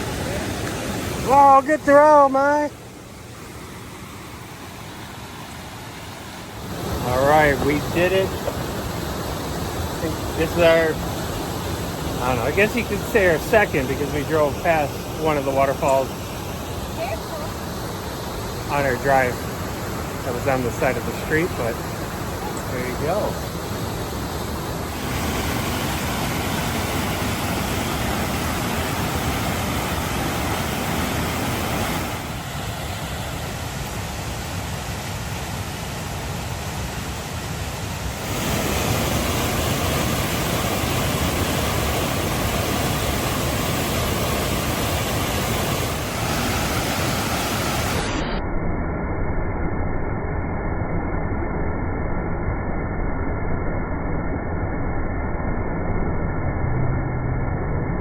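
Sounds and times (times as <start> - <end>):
waterfall rushing: 0.0 - 48.4.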